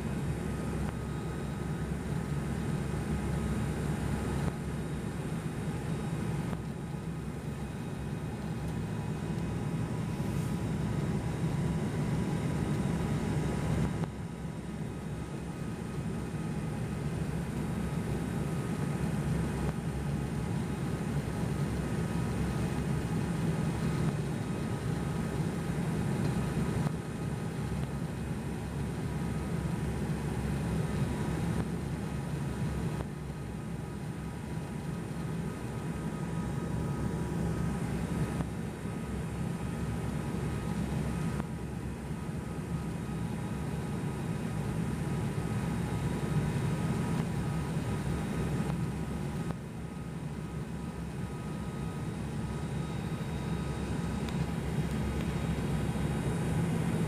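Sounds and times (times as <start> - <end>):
faint steady whines: 0.0 - 57.0
turboprop engine drone in cabin: 0.0 - 57.0.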